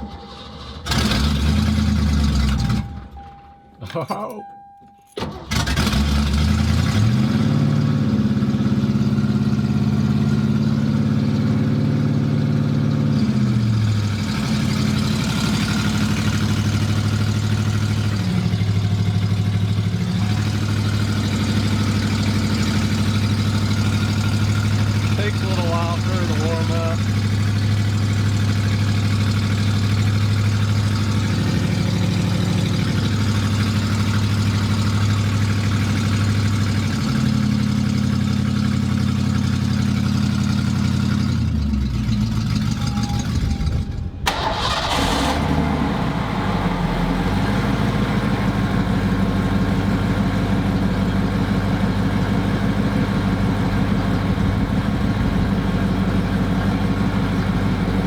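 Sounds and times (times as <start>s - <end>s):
car engine idling: 5.1s - 58.0s.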